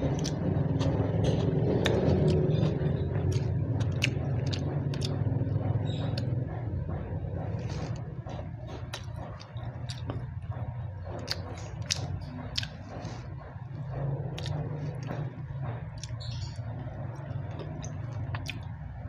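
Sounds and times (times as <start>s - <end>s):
chewing with mouth clicks: 0.0s - 18.8s
low vehicle engine rumble: 0.0s - 19.0s.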